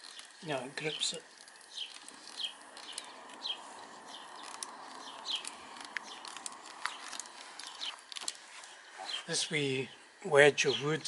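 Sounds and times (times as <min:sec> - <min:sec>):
bird chirping: 0:00.0 - 0:11.0
faint steady hiss: 0:00.0 - 0:11.0.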